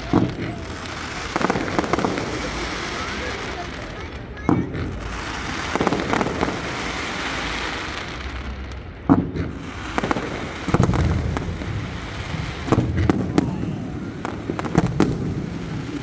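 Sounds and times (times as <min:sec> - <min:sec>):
background noise: 0:00.0 - 0:16.0
fireworks bangs: 0:00.0 - 0:16.0.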